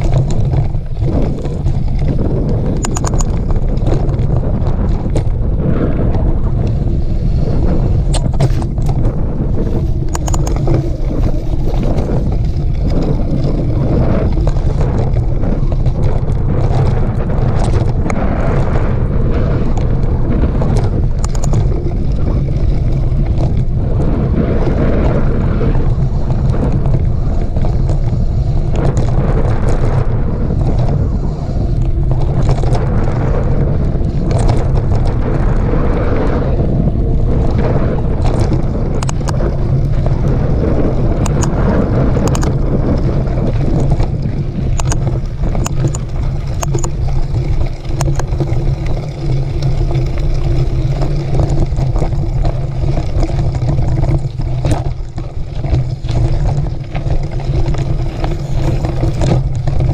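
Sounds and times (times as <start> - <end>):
bike clicks and rattles: 0.0 - 59.9
wind rush over microphone: 0.0 - 59.9.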